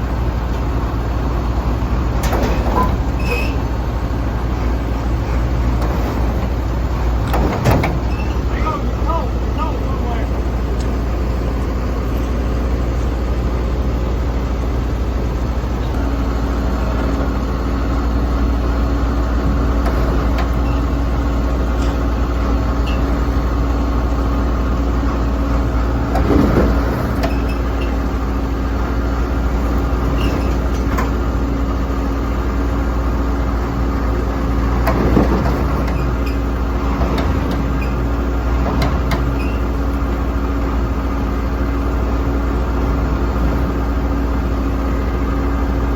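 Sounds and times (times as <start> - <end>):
heavy engine running: 0.0 - 45.9.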